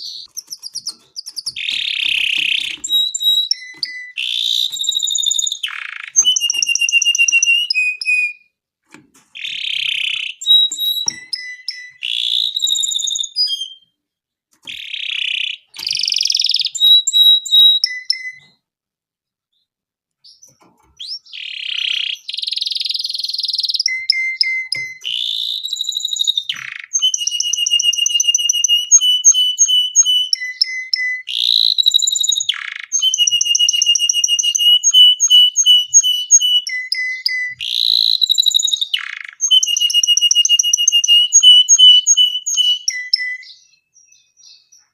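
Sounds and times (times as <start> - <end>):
canary singing trills: 0.0 - 8.5, 9.4 - 13.9, 14.6 - 18.6, 19.5 - 44.9.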